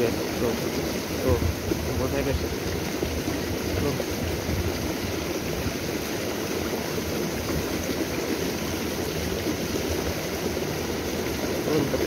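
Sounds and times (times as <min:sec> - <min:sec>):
stream water pouring into pool: 0:00.0 - 0:12.0.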